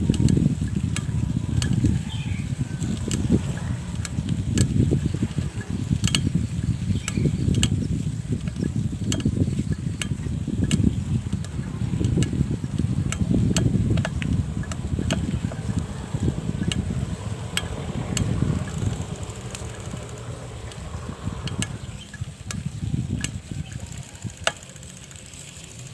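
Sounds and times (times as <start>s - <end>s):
bicycle rolling rumble: 0.0s - 25.9s
bicycle ticking: 0.0s - 25.9s.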